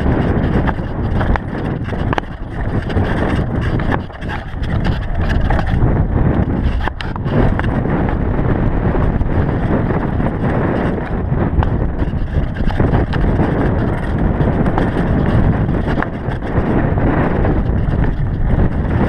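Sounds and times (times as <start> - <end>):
bike rattling over rocks: 0.0 - 19.0
wind buffeting camera: 0.0 - 19.0.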